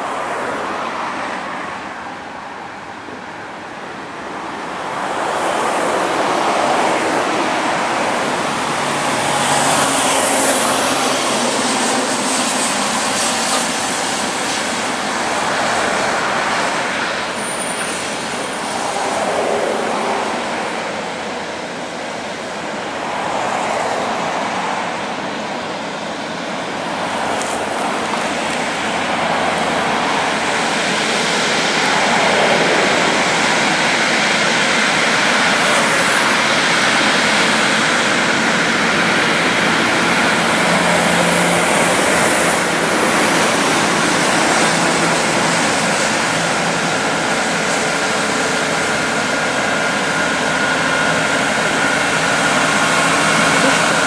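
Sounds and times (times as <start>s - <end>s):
highway traffic passing: 0.0s - 54.0s.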